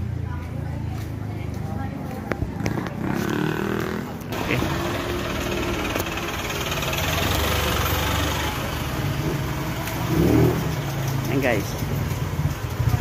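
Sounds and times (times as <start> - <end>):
motor vehicle engine running: 0.0 - 13.0.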